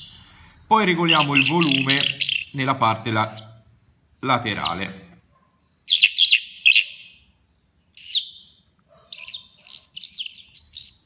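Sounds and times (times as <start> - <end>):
bird song through speaker: 0.0 - 11.0.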